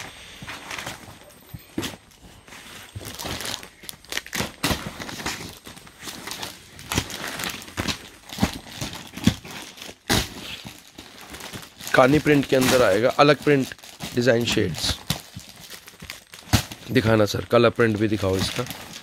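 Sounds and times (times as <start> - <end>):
rustling and crinkling paper and fabric: 0.0 - 19.0.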